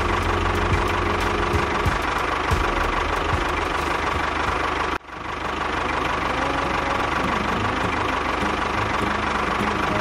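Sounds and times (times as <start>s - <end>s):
tractor engine knocking: 0.0s - 10.0s.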